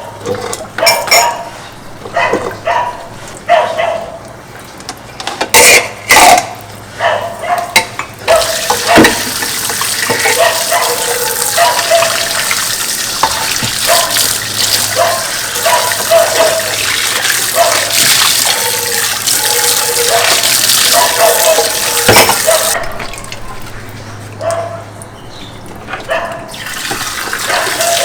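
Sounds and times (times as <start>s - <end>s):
dishes clattering in sink: 0.0s - 3.8s, 4.8s - 6.6s, 7.5s - 23.8s, 24.4s - 28.0s
tap water running: 0.0s - 28.0s.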